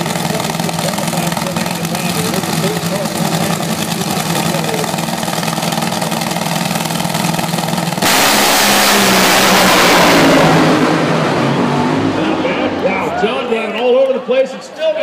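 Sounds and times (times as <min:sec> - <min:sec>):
drag racing car engine: 0:00.0 - 0:14.2.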